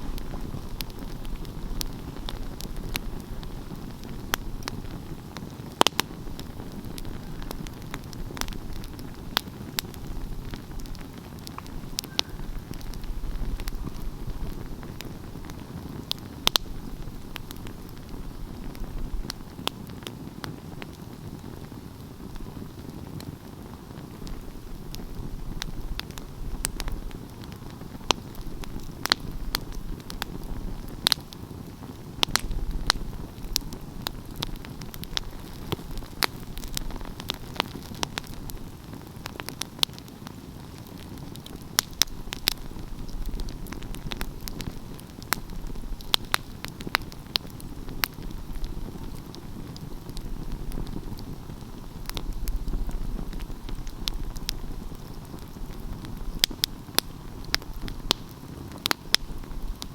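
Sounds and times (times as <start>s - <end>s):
logs crackling and popping: 0.0s - 59.9s
wood fire burning: 0.0s - 59.9s.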